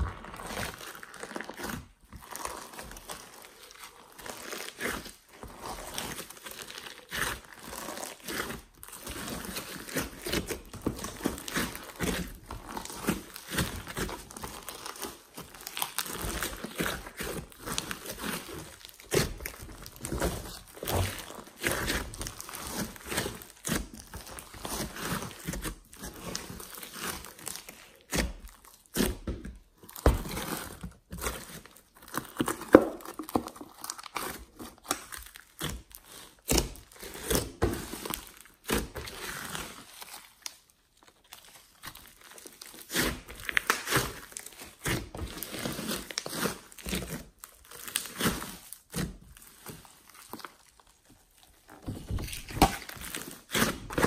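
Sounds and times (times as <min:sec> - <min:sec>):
slime squishing and crackling: 0:00.0 - 0:54.0.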